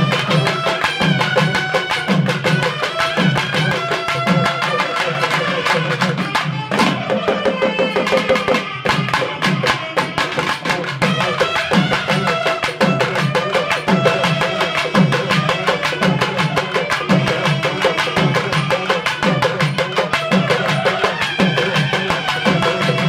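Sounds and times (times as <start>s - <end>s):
fast drum rhythm: 0.0s - 23.0s.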